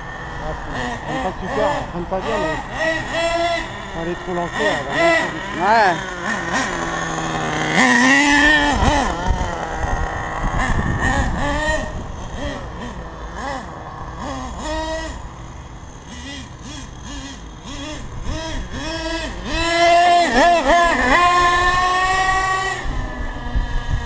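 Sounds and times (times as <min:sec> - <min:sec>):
nitro engine revving: 0:00.0 - 0:24.0.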